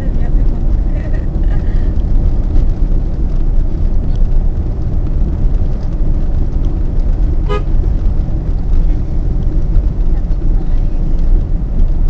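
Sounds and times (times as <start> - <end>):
car rumble on rough lane: 0.0 - 12.0.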